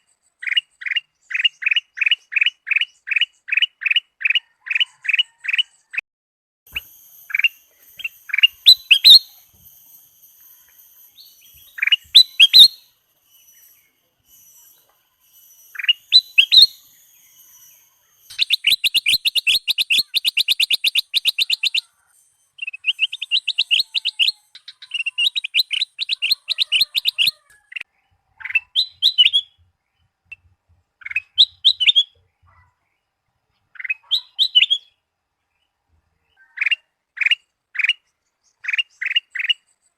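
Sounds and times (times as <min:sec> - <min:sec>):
bird whistling song: 0:00.4 - 0:05.7, 0:06.7 - 0:29.6, 0:30.3 - 0:32.2, 0:33.7 - 0:35.0, 0:36.3 - 0:39.8.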